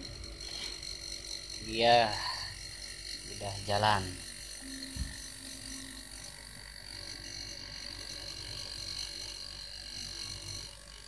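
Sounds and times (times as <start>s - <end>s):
compressor humming: 0.0s - 9.9s.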